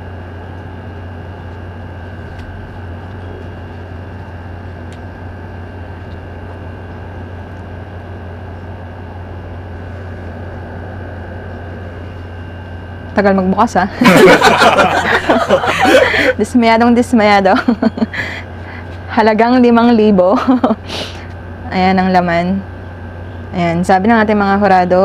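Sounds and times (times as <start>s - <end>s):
faint high whine: 0.0s - 25.0s
steady hum with hiss: 0.0s - 25.0s.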